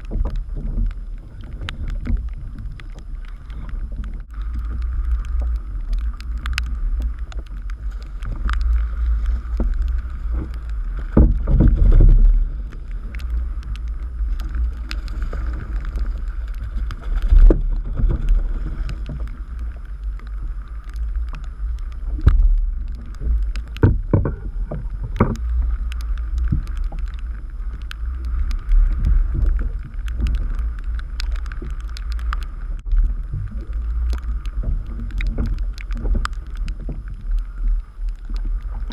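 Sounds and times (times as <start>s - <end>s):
water slapping against hull: 0.0s - 38.9s
wind rumble on microphone: 0.0s - 38.9s.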